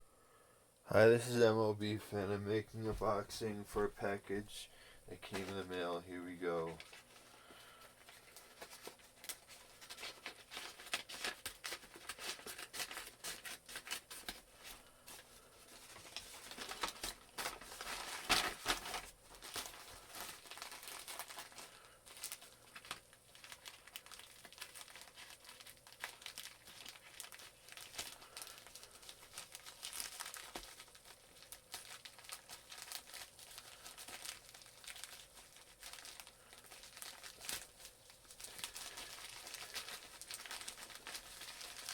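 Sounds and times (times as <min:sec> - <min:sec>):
packaging crinkling and tearing: 0:05.1 - 0:41.9.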